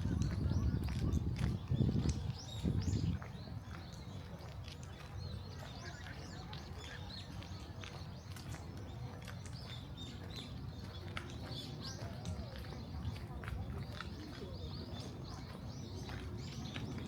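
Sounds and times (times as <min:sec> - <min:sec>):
distant murmur of people: 0:00.0 - 0:17.0
small birds chirping: 0:00.0 - 0:17.0.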